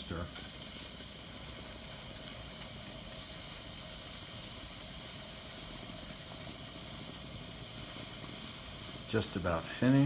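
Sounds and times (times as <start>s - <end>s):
siphon coffee maker hissing: 0.0s - 10.0s.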